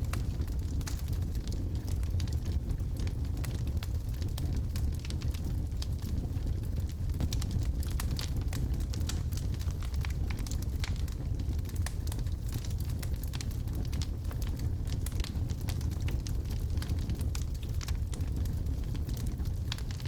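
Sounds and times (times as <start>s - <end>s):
wood logs burning in fireplace: 0.0s - 20.0s.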